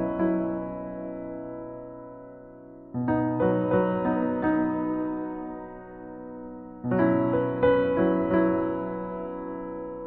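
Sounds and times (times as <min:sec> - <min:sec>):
gentle piano chord: 0:00.0 - 0:10.0.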